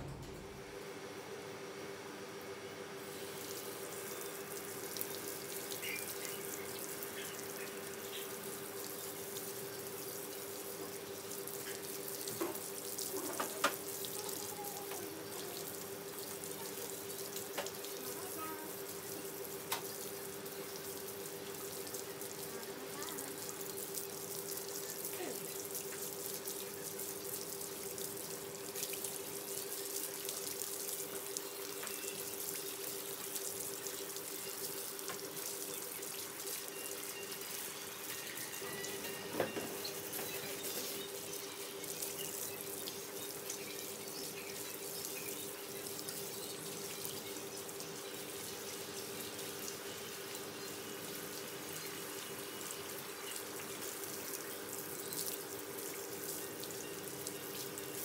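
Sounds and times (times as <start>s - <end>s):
water splashing from a hose: 2.6s - 58.0s.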